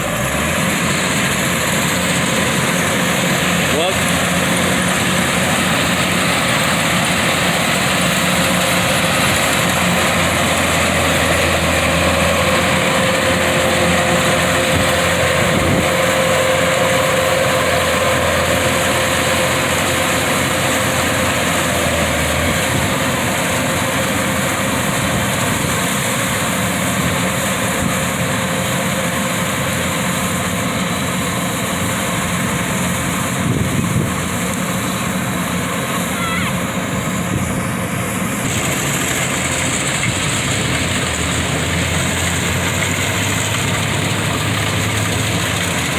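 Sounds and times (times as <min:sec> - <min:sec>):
combine harvester diesel engine: 0:00.0 - 0:45.9.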